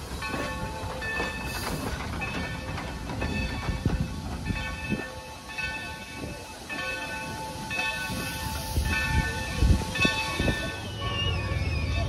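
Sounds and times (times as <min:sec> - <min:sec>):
locomotive bell ringing: 0:00.0 - 0:12.0
steam locomotive chuffing: 0:00.0 - 0:12.0.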